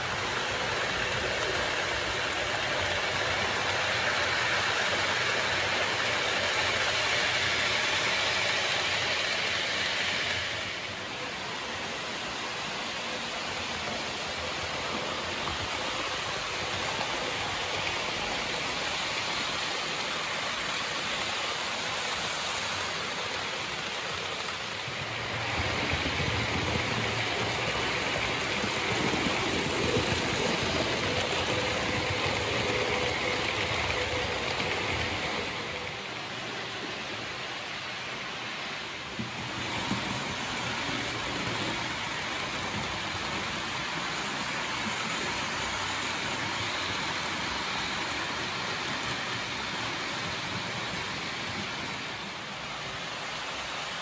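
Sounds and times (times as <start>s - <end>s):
model train wheels rumbling: 0.0s - 54.0s.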